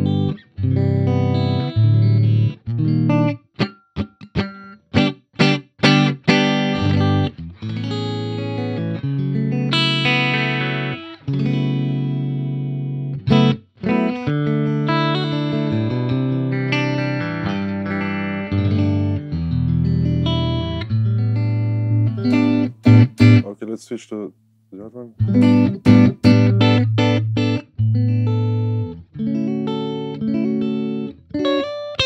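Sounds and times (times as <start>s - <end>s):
electric guitar chords: 0.0s - 23.5s, 25.2s - 32.0s.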